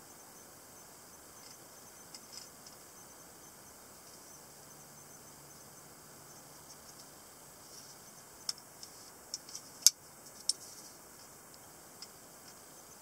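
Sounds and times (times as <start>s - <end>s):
faint low hum: 0.0s - 13.0s
steady hiss: 0.0s - 13.0s.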